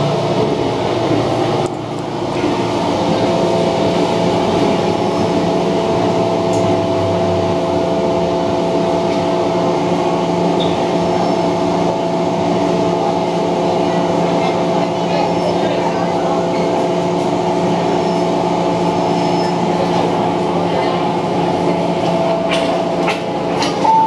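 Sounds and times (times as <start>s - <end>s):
train equipment hum: 0.0s - 24.0s
train rolling noise: 0.0s - 24.0s.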